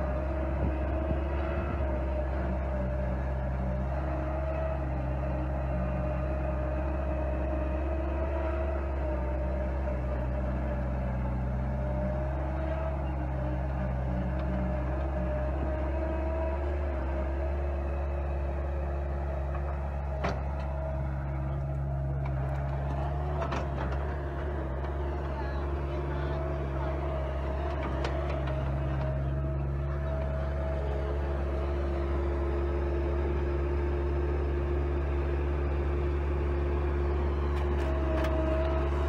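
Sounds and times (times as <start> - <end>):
skid steer engine running: 0.0 - 39.0.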